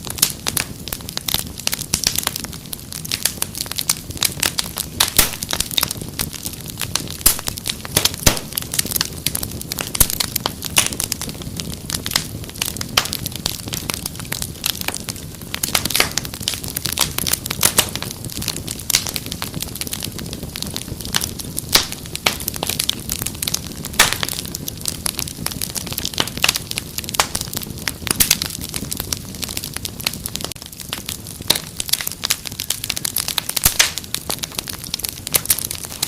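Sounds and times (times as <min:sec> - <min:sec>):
fire snapping and popping: 0:00.0 - 0:36.0
low rumble of flames: 0:00.0 - 0:36.0
wood fire crackling: 0:00.0 - 0:36.0.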